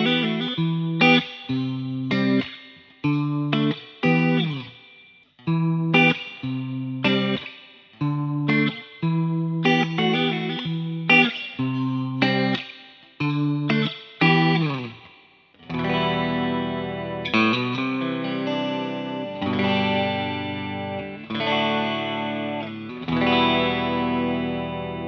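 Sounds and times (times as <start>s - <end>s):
guitar slide: 0.0s - 4.7s, 5.5s - 25.0s
clean electric guitar with chorus: 0.0s - 25.0s.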